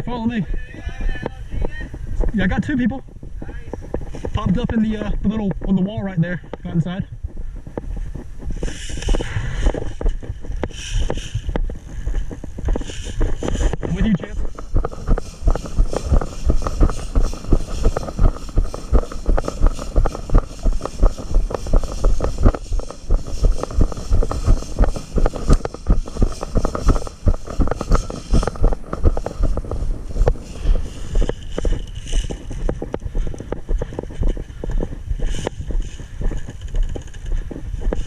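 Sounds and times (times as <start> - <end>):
footsteps thumping: 0.0 - 38.0
gear jostling against camera: 0.0 - 38.0
wind buffeting microphone: 0.0 - 38.0.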